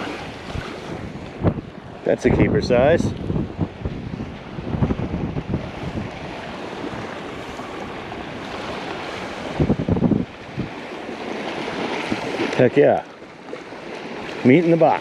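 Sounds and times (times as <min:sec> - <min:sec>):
low rumbling gusts: 0:00.0 - 0:13.0
surf: 0:00.0 - 0:15.0
wind buffeting microphone: 0:00.0 - 0:15.0.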